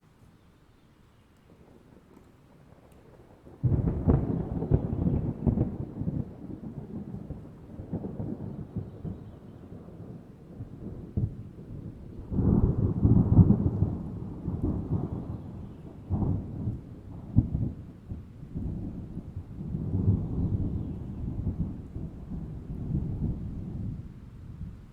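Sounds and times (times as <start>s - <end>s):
rain: 0.0s - 24.9s
thunder rumbling: 1.5s - 24.9s.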